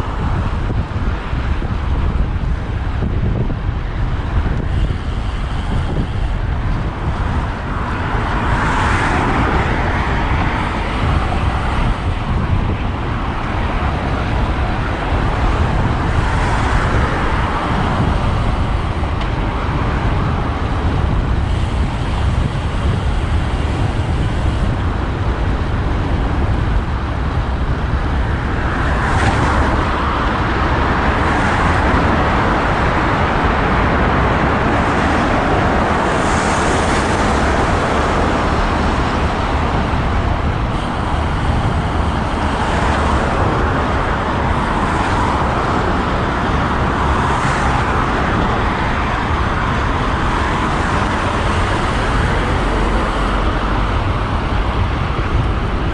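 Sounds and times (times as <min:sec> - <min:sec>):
road traffic: 0:00.0 - 0:55.9
wind rumble on microphone: 0:00.0 - 0:55.9.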